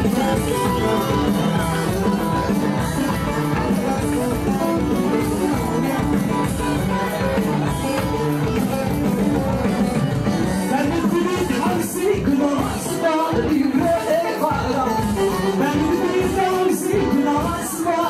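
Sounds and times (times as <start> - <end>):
dance music with steady beat: 0.0 - 18.0.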